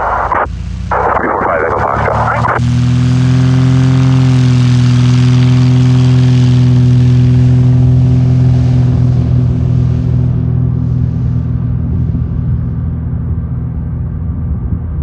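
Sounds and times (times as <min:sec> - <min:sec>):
propeller airplane drone: 0:00.0 - 0:15.0.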